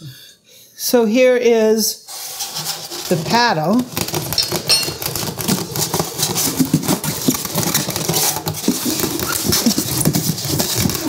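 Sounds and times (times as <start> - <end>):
styrofoam squeaking and rubbing: 2.1 - 11.0.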